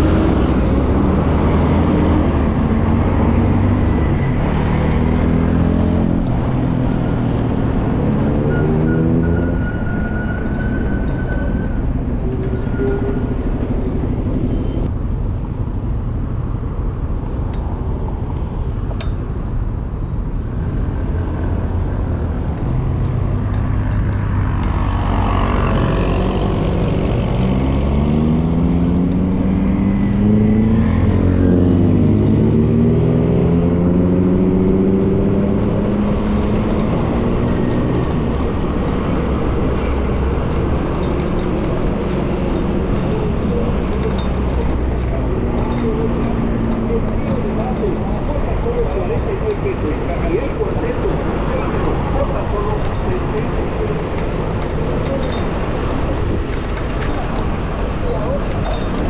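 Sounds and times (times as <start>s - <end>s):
vehicle engine accelerating: 0.0s - 14.9s, 20.4s - 59.0s
road traffic: 0.0s - 59.0s.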